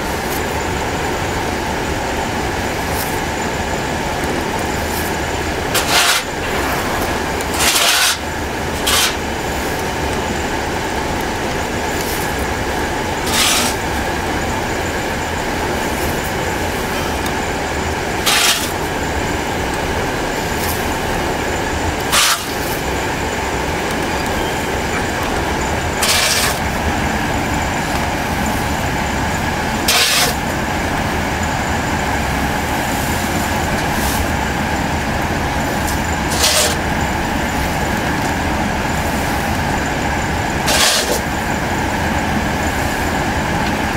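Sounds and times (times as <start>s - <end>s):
machinery mechanical drone: 0.0s - 43.9s.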